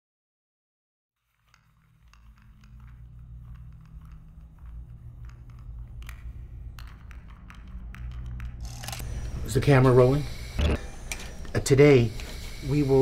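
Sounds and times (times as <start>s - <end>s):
low steady hum: 1.4s - 13.0s.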